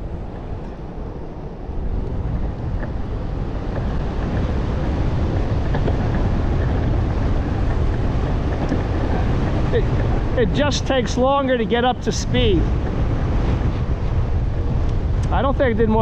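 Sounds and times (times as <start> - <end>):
skateboard wheels rumbling on asphalt: 0.0 - 16.0
wind buffeting microphone: 0.0 - 16.0.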